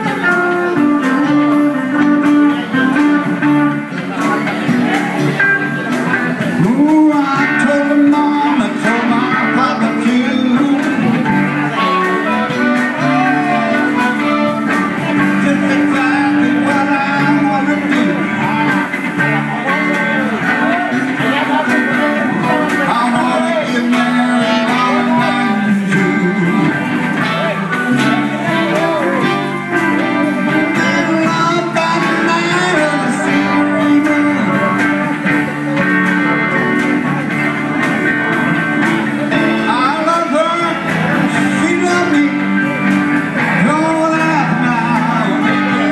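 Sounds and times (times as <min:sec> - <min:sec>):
electric guitars: 0:00.0 - 0:45.9
keyboard: 0:00.0 - 0:45.9
sliding bending lead notes: 0:00.0 - 0:45.9.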